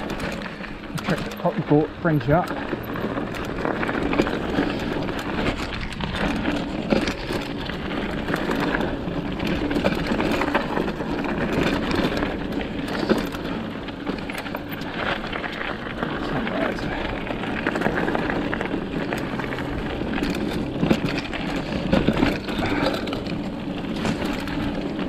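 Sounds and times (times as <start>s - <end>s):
bike knocking and rattling: 0.0s - 25.0s
bike tyres on dirt and stones: 0.0s - 25.0s.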